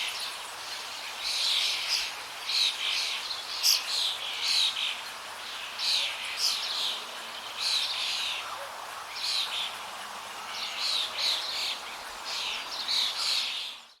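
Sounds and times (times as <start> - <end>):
flowing water: 0.0 - 14.0.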